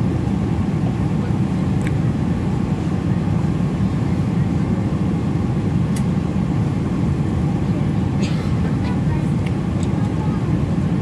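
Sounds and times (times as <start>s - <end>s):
airliner engine rumble in cabin: 0.0s - 11.0s.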